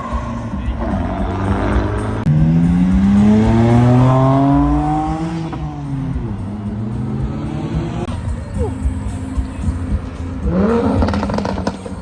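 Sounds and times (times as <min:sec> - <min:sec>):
car engine accelerating hard: 0:00.4 - 0:12.0.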